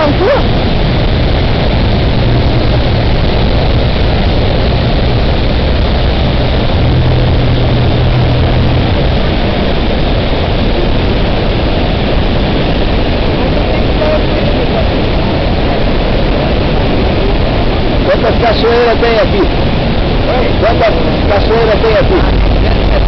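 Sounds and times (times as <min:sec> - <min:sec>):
rushing water and wind: 0:00.0 - 0:23.0
speedboat engine: 0:00.0 - 0:23.0.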